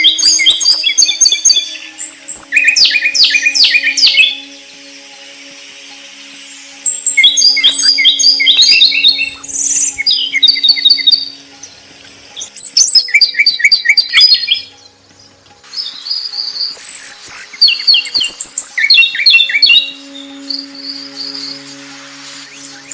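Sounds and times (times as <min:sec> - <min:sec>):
songbird chirping and trilling: 0:00.0 - 0:22.9.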